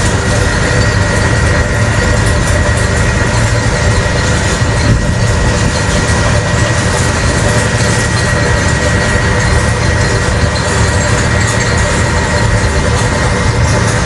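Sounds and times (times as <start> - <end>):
heavy machinery engine drone: 0.0 - 14.0
thin high whine: 0.0 - 14.0.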